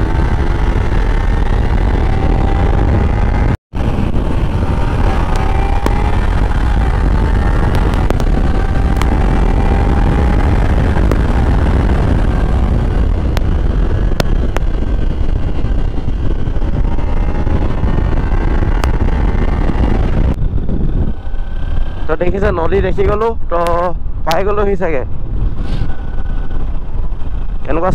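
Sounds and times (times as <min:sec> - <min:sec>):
motorcycle engine cruising: 0:00.0 - 0:27.9
wind buffeting microphone: 0:00.0 - 0:27.9.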